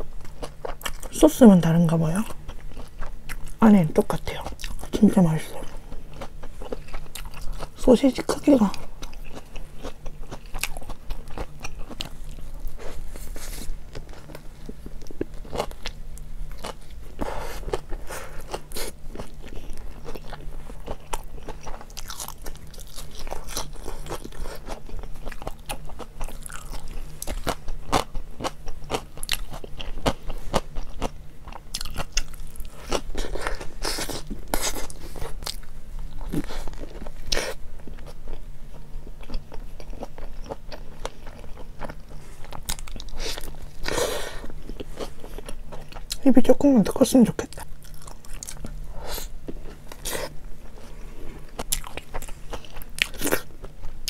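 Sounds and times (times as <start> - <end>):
chewing hot dog: 0.0 - 1.2, 2.2 - 5.0, 5.6 - 46.2, 47.4 - 54.0
faint low hum: 0.0 - 54.0.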